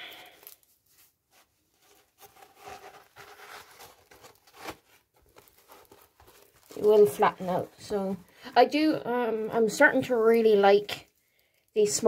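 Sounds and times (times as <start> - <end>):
plastic-covered canvas rustling: 0.2 - 11.7.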